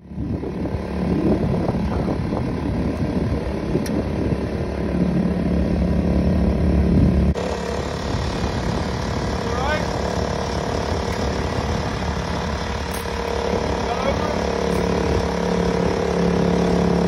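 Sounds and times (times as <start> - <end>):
boat engine drone: 0.0 - 17.0
low hum: 0.0 - 17.0.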